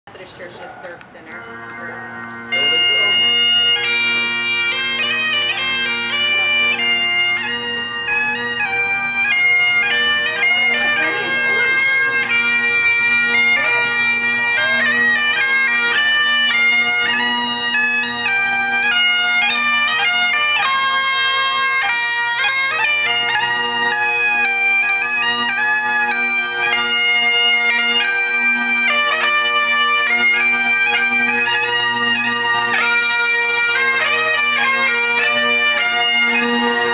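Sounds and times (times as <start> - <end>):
bagpipes playing: 0.2 - 36.9.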